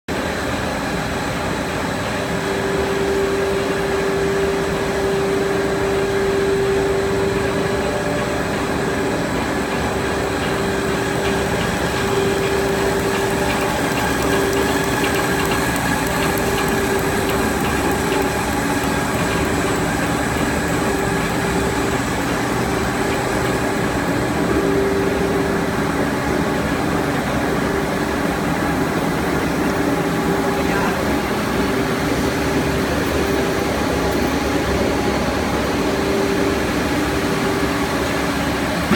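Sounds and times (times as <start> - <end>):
factory noise: 0.1 - 38.9
machine drone: 0.1 - 38.9.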